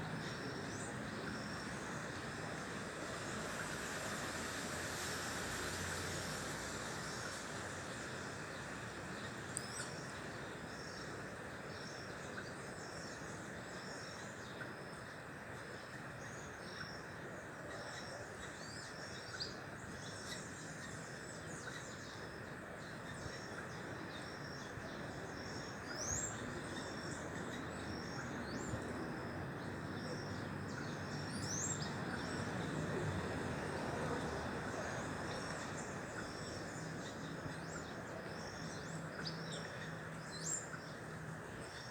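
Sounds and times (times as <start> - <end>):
steady background noise: 0.0 - 41.9.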